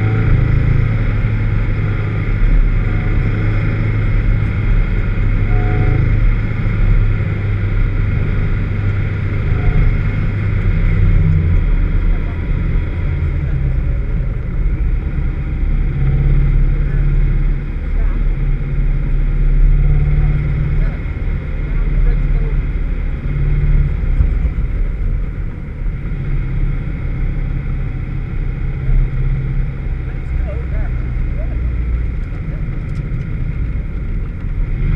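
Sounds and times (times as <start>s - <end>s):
car engine misfiring drone: 0.0s - 34.9s
road and wind noise: 0.0s - 34.9s.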